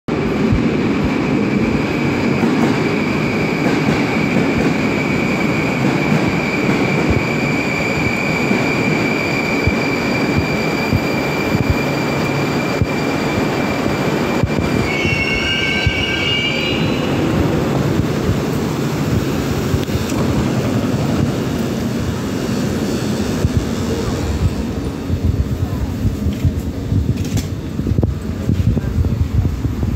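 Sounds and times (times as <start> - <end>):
metro train rumbling: 0.1 - 29.9.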